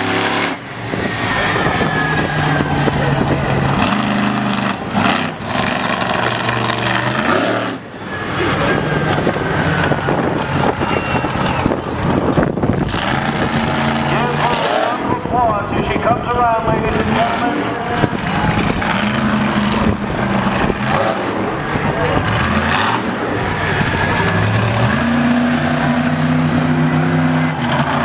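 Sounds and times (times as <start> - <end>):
loud vehicle engines running hard: 0.0 - 28.0.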